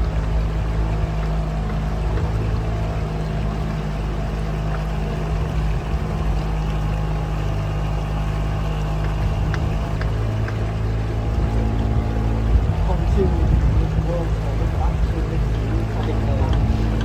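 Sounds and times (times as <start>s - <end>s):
boat engine humming: 0.0s - 17.0s
water and air rushing: 0.0s - 17.0s.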